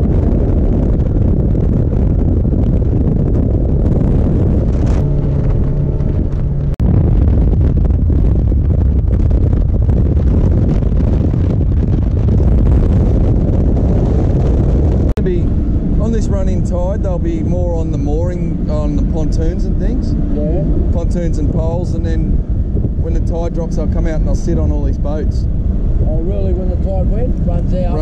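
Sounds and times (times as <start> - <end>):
steady pitched hum: 0.0 - 11.4, 12.2 - 28.0
boat motor roar: 0.0 - 28.0
wind rumble on microphone: 0.0 - 28.0.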